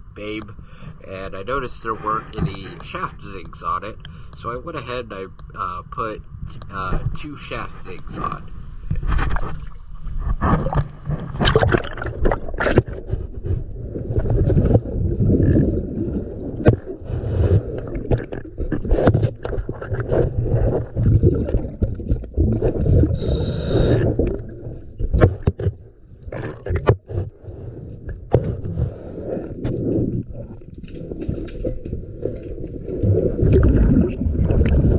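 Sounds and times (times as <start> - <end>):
underwater bubbling and gurgling: 0.0 - 34.9.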